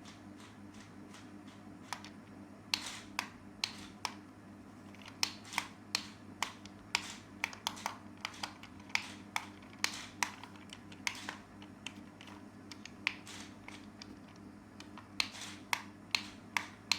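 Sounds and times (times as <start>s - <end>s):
sharp clicks and taps: 1.9s - 4.2s, 4.9s - 16.9s.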